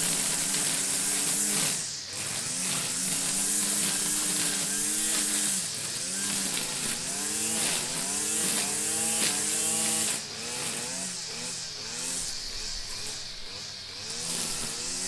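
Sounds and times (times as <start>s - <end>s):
grass trimmer running: 0.0s - 15.0s
steady high hiss: 0.0s - 15.0s.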